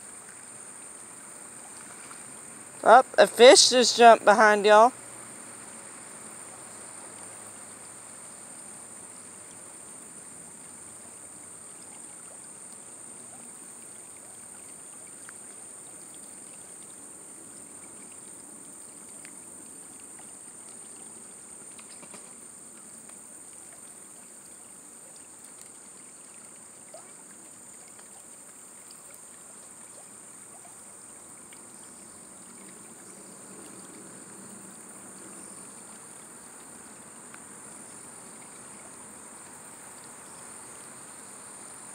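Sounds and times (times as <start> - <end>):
high-pitched insect chorus: 0.0 - 41.9
moving water: 0.0 - 41.9.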